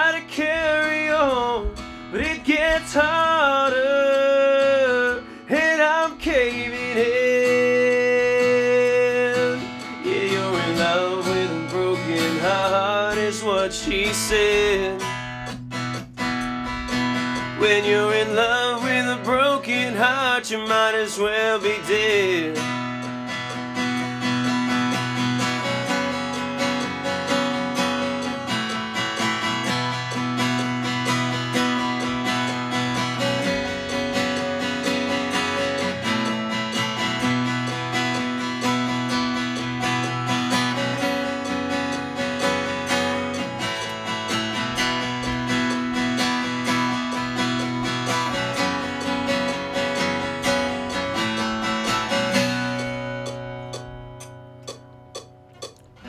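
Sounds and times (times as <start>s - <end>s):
steady beat: 0.0s - 56.0s
strummed acoustic guitar: 0.0s - 56.0s.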